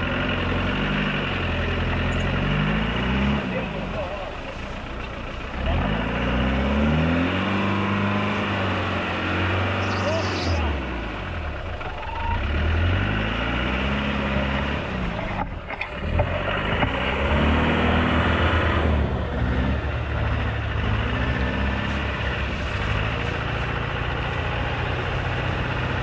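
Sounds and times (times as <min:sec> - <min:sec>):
off-road engine revving: 0:00.0 - 0:26.0
vehicle churning through mud: 0:00.0 - 0:26.0.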